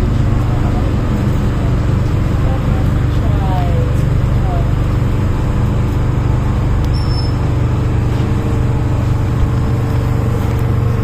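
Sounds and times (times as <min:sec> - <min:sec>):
train interior low rumble: 0:00.0 - 0:11.0.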